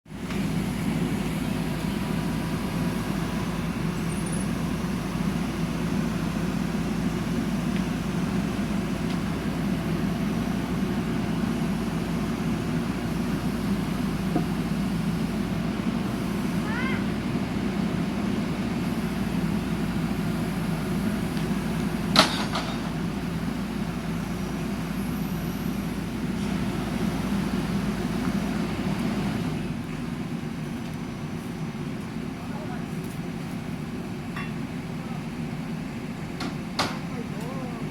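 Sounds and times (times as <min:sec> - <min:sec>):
diesel engine running: 0:00.1 - 0:37.9.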